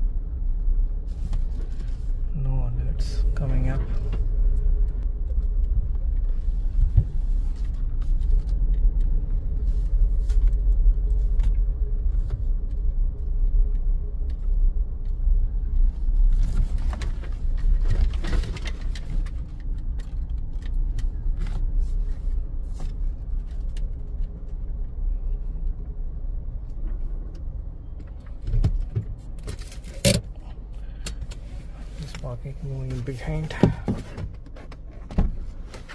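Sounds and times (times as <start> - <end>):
car engine and tyres rumbling: 0.0 - 35.9.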